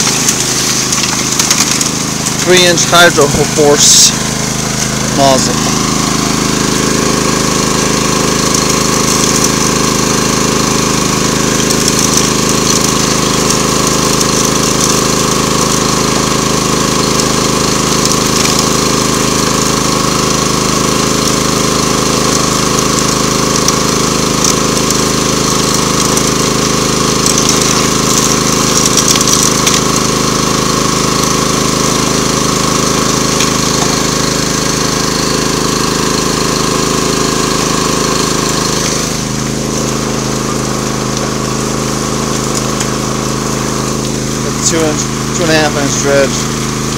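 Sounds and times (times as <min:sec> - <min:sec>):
small gasoline engine running: 0:00.0 - 0:46.9.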